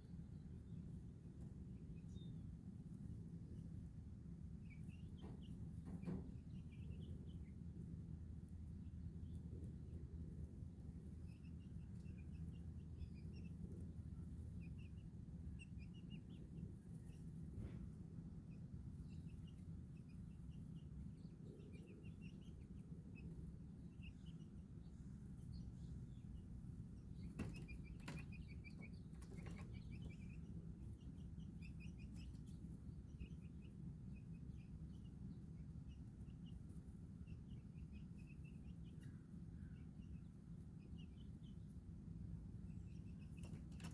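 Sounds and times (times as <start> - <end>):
baby chicks peeping: 0.0 - 43.9
low steady hum: 0.0 - 43.9.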